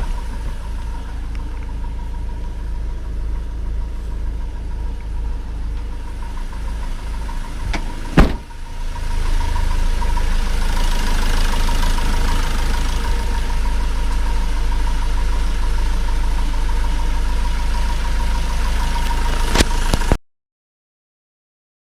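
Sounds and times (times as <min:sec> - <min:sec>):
van engine running: 0:00.0 - 0:20.2.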